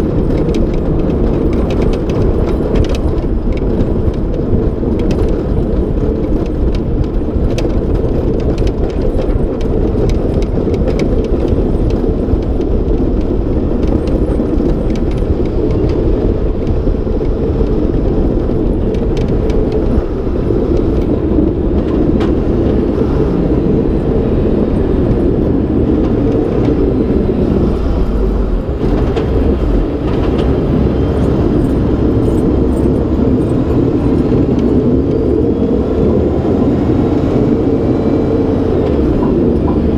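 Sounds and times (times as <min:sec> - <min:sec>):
plow truck rumbling through snow: 0:00.0 - 0:39.9.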